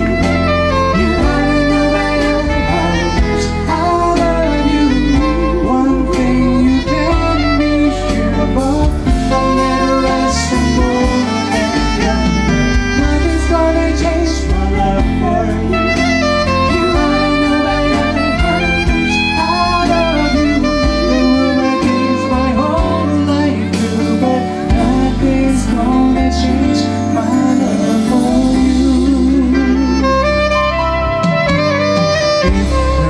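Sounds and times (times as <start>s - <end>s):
man and woman singing duet: 0.0s - 30.2s
electric guitar: 0.0s - 33.0s
live band music: 0.0s - 33.0s.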